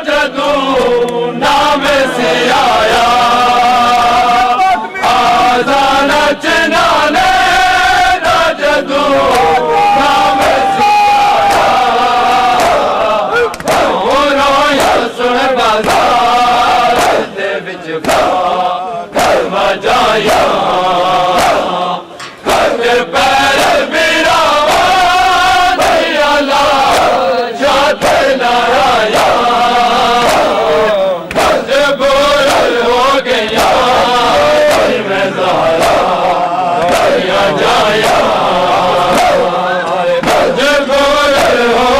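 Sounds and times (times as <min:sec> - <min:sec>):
men chanting together: 0:00.0 - 0:41.9.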